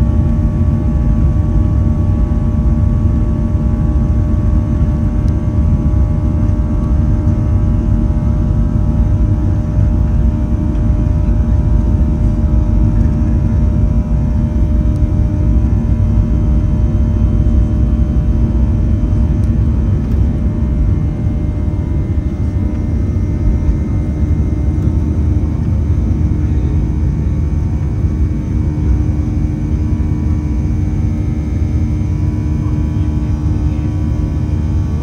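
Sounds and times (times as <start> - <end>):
jet engine rumble and airflow: 0.0 - 35.0
steady engine tones: 2.7 - 35.0.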